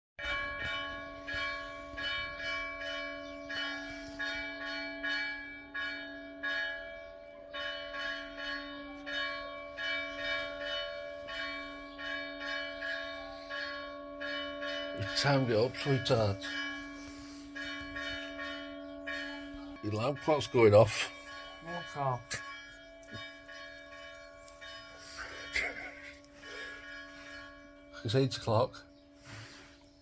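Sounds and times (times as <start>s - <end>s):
church bells ringing: 0.2s - 30.0s.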